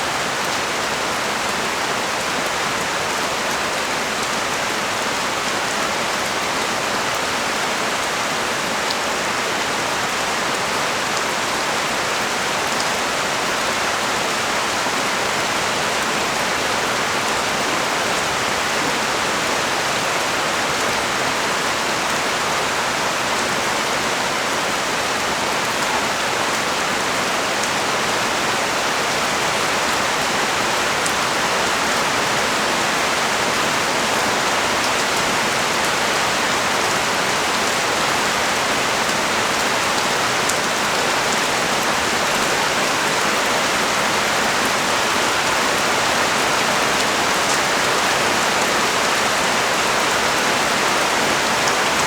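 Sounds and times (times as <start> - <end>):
heavy rain on a street: 0.0 - 52.0.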